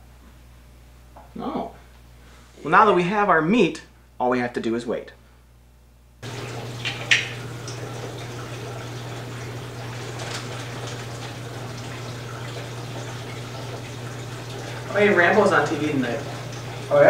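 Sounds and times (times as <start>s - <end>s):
aquarium pump and filter hum: 0.0s - 17.0s.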